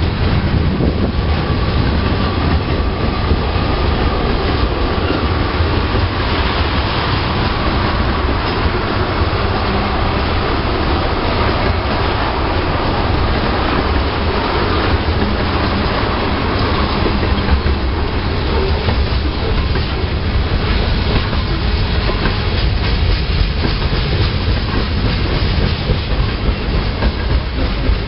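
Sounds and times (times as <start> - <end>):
freight train rumbling and rattling: 0.0 - 28.0.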